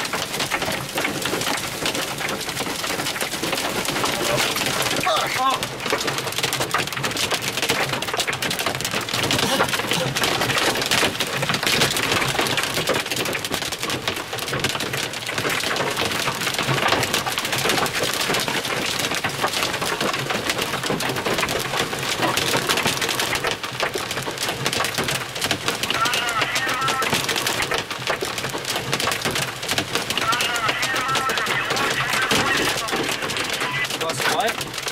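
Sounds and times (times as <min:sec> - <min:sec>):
hail and rain pelting car roof: 0:00.0 - 0:34.9.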